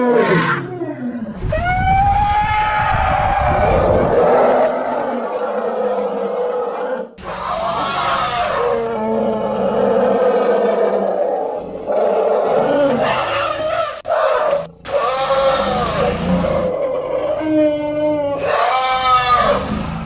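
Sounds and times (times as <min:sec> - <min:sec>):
elephant roaring cries: 0:00.0 - 0:20.0.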